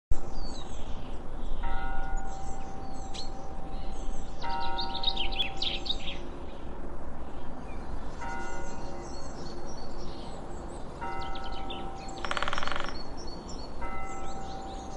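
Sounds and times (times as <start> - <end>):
birds chirping: 0.3 - 14.9.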